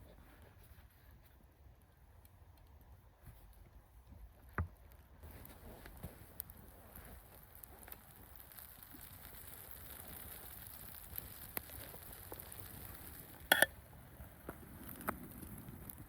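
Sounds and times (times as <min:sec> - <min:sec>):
campfire crackling and popping: 0:01.4 - 0:16.0.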